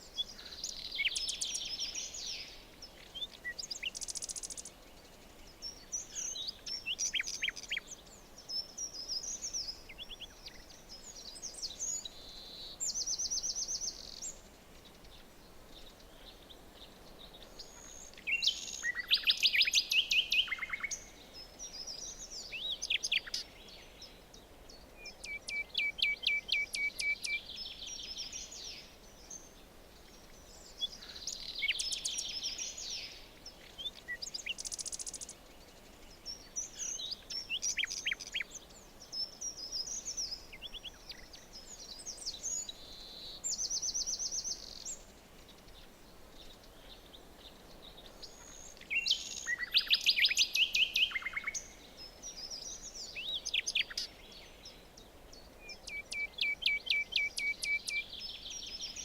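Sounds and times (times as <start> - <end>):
faint background hiss: 0.0 - 59.0
songbirds singing and chirping: 0.0 - 59.0.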